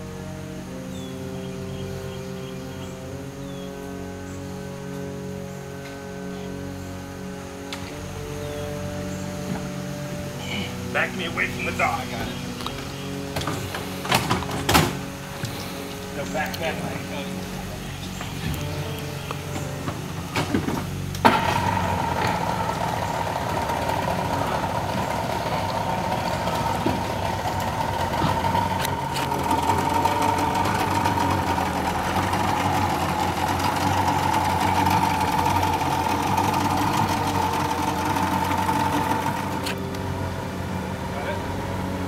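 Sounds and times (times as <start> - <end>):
outboard motor running: 0.0 - 42.0
steady high whine: 0.0 - 42.0.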